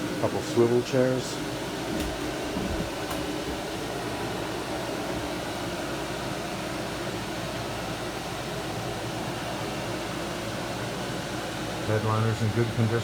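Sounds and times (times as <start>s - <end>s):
air conditioning hiss: 0.0s - 13.0s.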